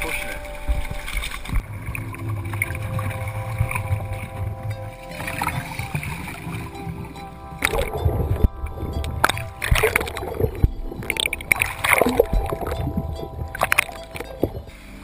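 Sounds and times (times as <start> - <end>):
water splashing and gurgling: 0.0 - 15.0.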